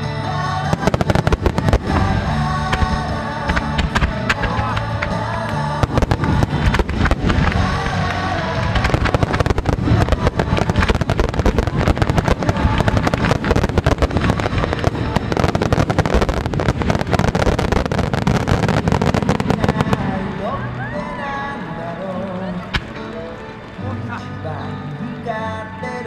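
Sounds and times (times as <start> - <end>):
fireworks bursting: 0.0 - 24.2.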